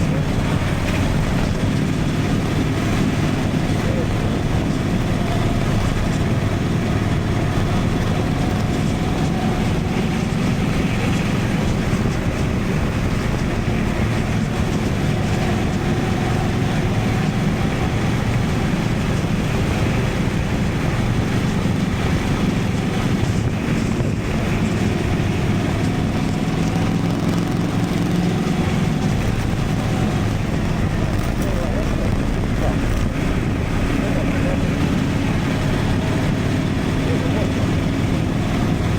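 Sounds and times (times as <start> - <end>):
motorcycle engine running: 0.0 - 38.9
rush of riding wind: 0.0 - 38.9.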